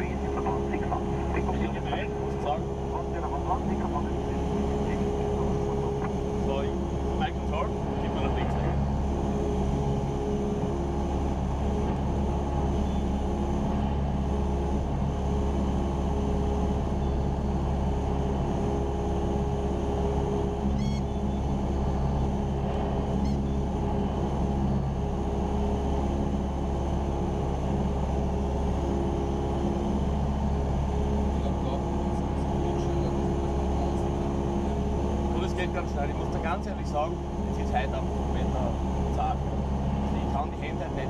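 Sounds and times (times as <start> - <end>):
airplane engine droning in cockpit: 0.0 - 41.0.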